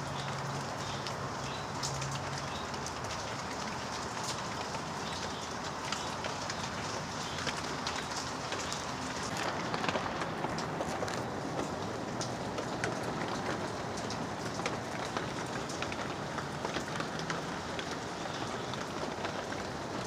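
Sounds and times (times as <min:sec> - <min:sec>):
raindrops ticking on a hard surface: 0:00.0 - 0:20.0
steady rainfall: 0:00.0 - 0:20.0.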